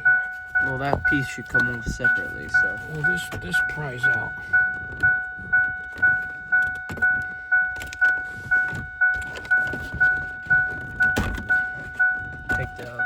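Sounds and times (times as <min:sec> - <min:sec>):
dashboard warning chime dinging: 0:00.0 - 0:13.0.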